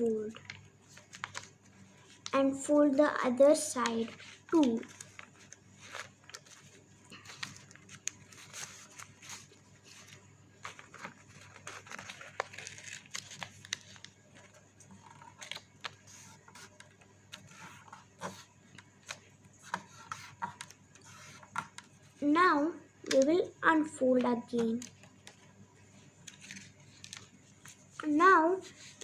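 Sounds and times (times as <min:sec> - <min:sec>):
paper rustling and crackling: 0:00.0 - 0:22.3, 0:23.0 - 0:29.0.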